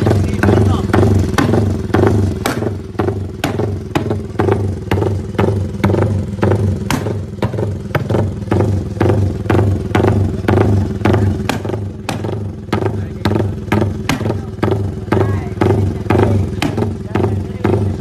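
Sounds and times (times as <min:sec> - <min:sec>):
motorcycle engine pulsing: 0:00.0 - 0:18.0.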